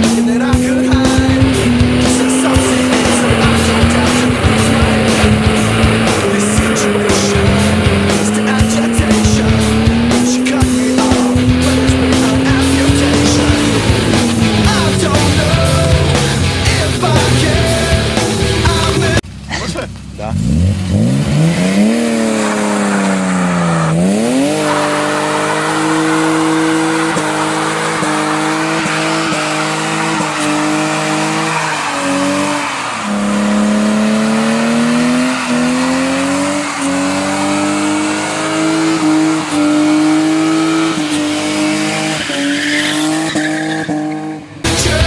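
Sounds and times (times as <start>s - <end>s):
car engine revving: 0.0s - 45.0s
tyres screeching: 0.0s - 45.0s.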